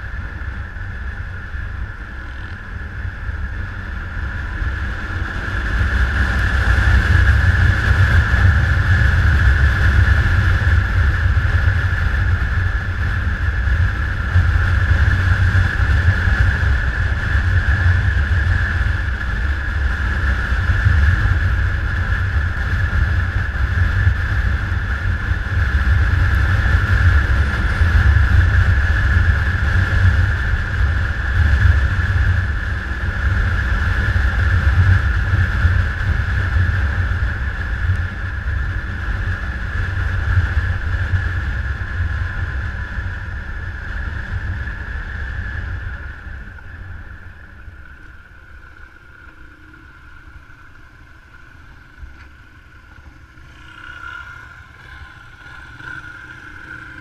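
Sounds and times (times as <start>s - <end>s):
motorcycle engine rumble: 0.0s - 57.0s
wind noise hiss: 0.0s - 57.0s.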